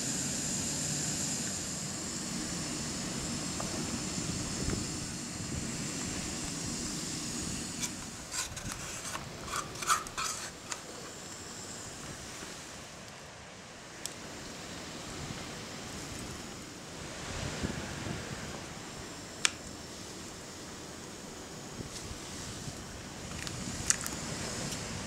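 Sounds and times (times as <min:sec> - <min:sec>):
gas stove burner hissing: 0:00.0 - 0:25.0.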